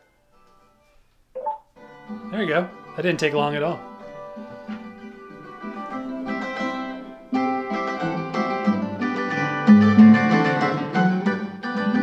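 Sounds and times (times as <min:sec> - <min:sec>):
acoustic guitar music from speaker: 0:00.0 - 0:12.0.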